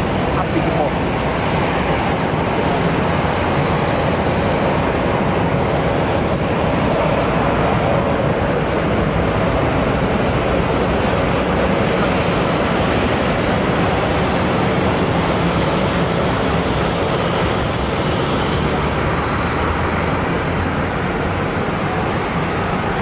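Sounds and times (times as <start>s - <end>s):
jet airliner engines: 0.0s - 23.0s.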